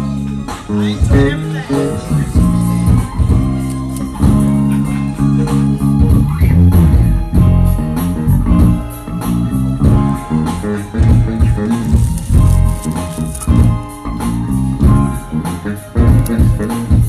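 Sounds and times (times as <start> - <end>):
guitar: 0.0 - 17.0
live band playing: 0.0 - 17.0.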